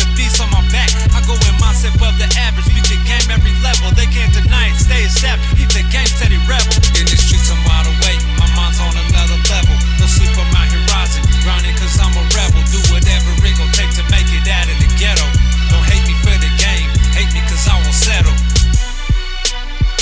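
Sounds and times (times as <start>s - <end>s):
hip-hop backing music: 0.0s - 20.0s.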